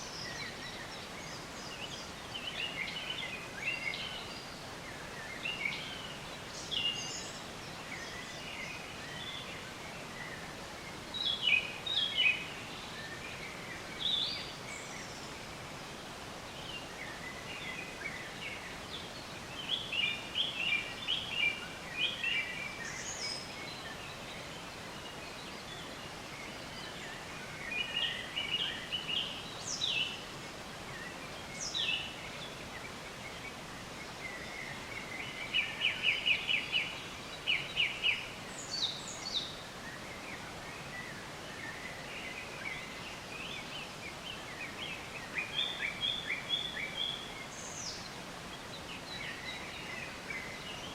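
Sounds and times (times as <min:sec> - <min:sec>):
songbirds chirping and singing: 0:00.0 - 0:50.9
steady background hiss: 0:00.0 - 0:50.9.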